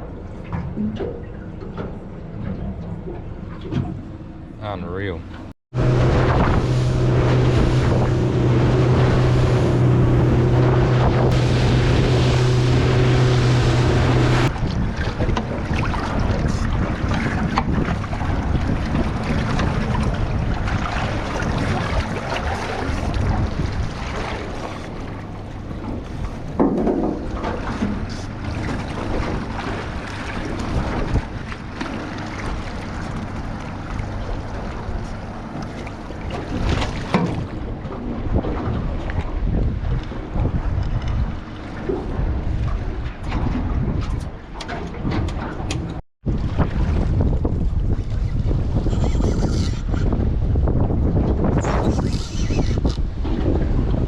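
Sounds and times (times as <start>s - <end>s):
boat motor droning: 0.0s - 50.4s
water rushing past hull: 2.0s - 54.0s
wind buffeting microphone: 5.8s - 31.8s, 32.4s - 54.0s.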